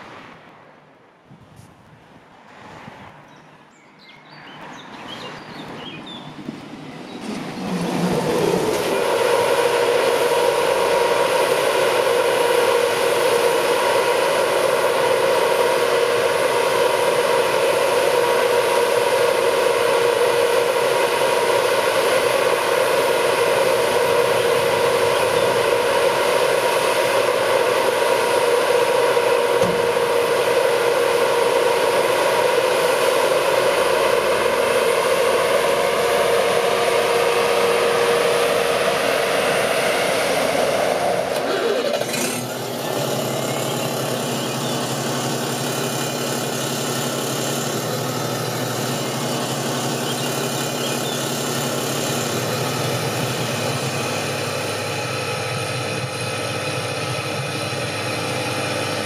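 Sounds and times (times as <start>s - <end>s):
harvester machine whining: 4.7s - 59.0s.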